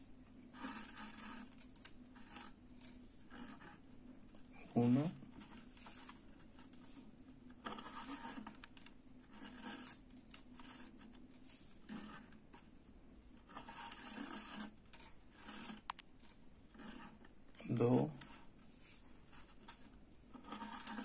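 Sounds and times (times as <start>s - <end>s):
thread scratching and rustling: 0.0s - 21.0s.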